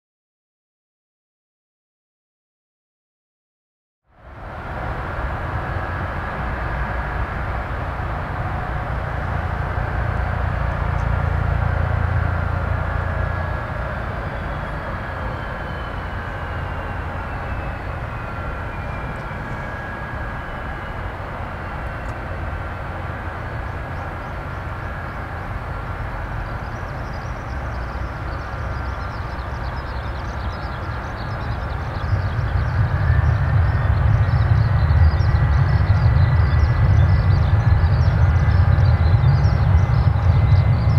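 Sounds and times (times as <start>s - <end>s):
jet engines rumbling and whining: 4.1s - 40.9s.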